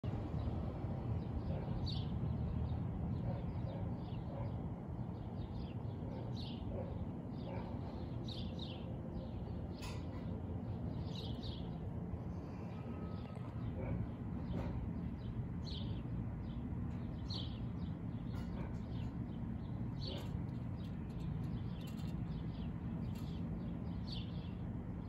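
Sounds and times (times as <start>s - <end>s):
small birds chirping: 1.2s - 25.0s.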